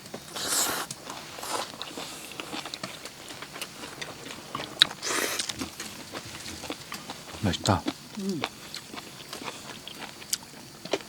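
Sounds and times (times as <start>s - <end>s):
person chewing: 0.4s - 11.0s.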